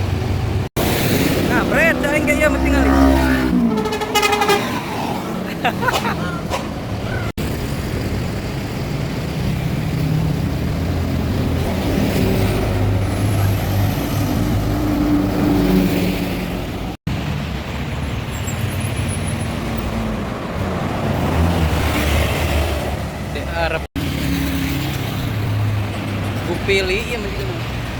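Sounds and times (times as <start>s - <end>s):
traffic: 0.0s - 27.9s.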